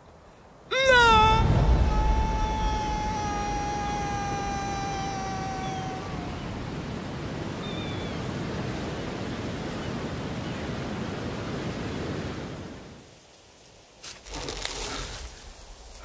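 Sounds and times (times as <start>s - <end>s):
sea: 0.0s - 13.2s
wind: 0.0s - 16.0s.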